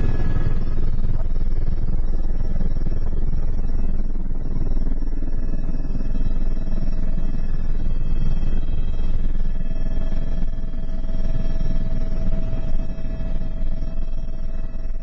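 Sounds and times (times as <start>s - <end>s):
helicopter flying: 0.0s - 15.0s.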